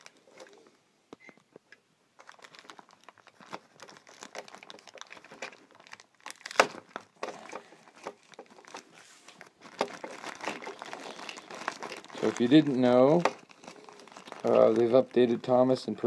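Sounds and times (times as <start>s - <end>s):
plastic wrapping crinkling: 2.2s - 16.0s.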